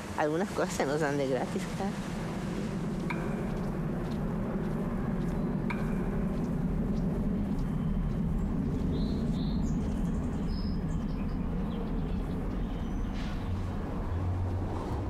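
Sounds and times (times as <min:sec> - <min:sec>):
low ambient rumble: 0:00.0 - 0:15.0.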